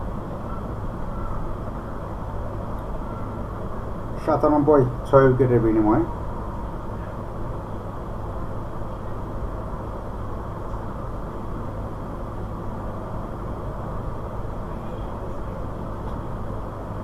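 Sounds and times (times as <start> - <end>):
steady dull background noise: 0.0 - 17.0.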